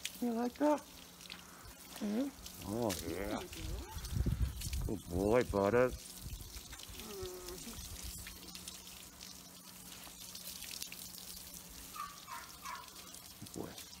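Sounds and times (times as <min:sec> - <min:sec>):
hose water spraying and splashing: 0:00.0 - 0:14.0.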